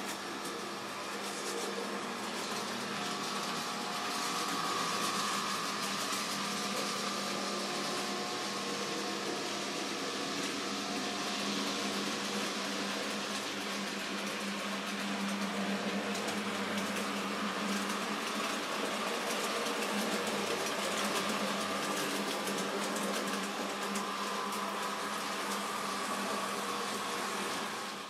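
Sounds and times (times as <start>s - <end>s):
model train motor hum: 0.0s - 28.0s.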